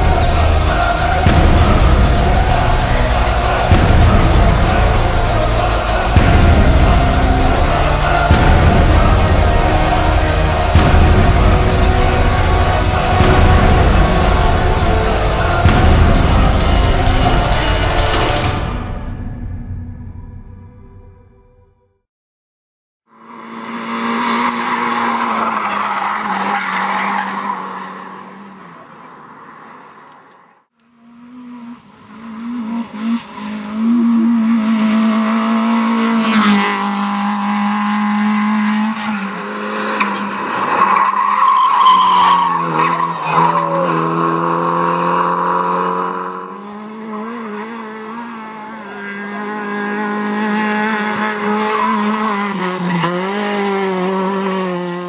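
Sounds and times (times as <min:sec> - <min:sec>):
rally car engines revving: 0:00.0 - 0:21.1, 0:23.4 - 0:30.0, 0:31.2 - 0:55.0.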